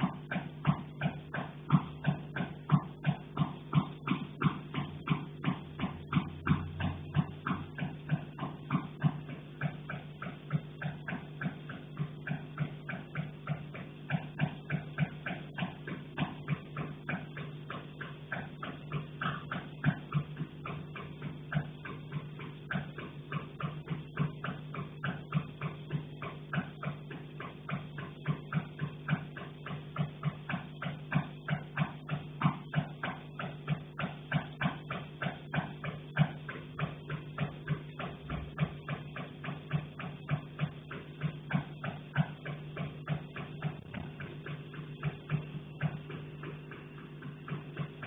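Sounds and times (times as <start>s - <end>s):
low constant hum: 0.0s - 48.0s
repeated knocking: 0.0s - 48.0s.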